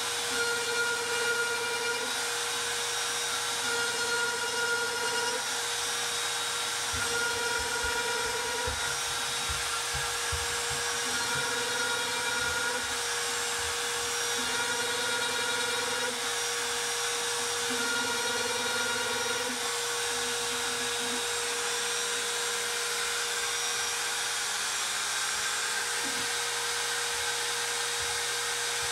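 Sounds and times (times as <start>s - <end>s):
router cutting wood: 0.0s - 28.9s
router whining: 0.0s - 28.9s.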